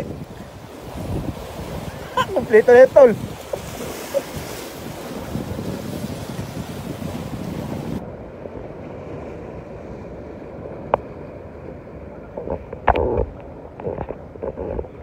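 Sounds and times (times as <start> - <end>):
surf washing against rocks: 0.0 - 15.0
wind buffeting microphone: 0.0 - 15.0.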